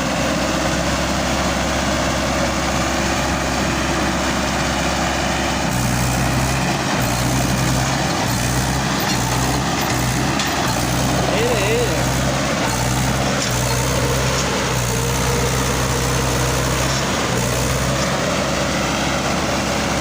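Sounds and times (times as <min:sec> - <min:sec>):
tractor diesel engine: 0:00.0 - 0:20.0.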